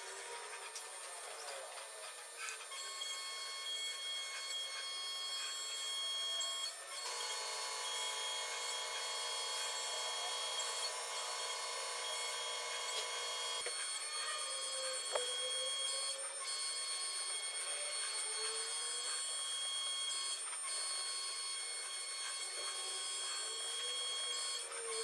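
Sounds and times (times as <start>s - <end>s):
electric motor whine: 0.0s - 25.0s.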